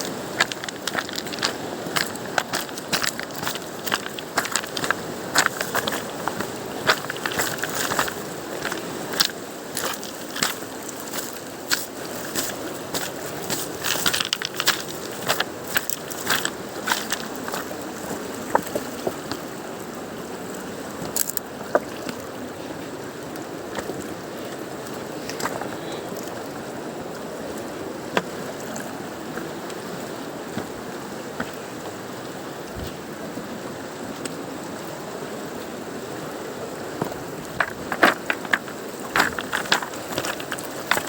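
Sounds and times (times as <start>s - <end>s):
mountain river rushing: 0.0s - 41.0s.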